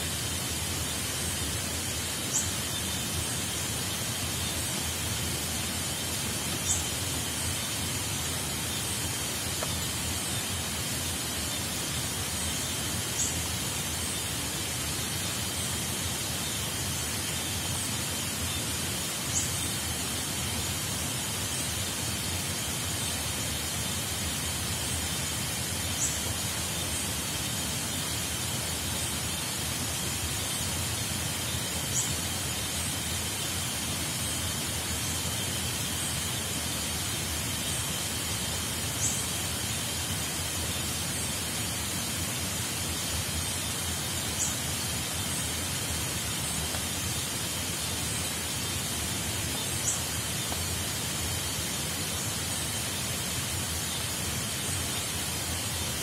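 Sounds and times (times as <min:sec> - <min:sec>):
high insect drone: 0:00.0 - 0:56.0
rain hissing: 0:00.0 - 0:56.0.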